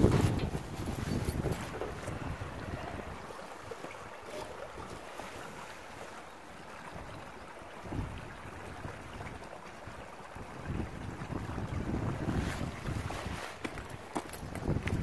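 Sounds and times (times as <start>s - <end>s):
wind buffeting microphone: 0.0s - 5.1s, 6.8s - 15.0s.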